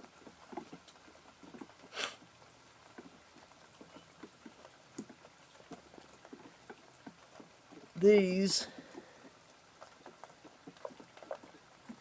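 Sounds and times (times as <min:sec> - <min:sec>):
faint rain pattering and dripping: 0:00.0 - 0:12.0
rustle: 0:00.0 - 0:12.0.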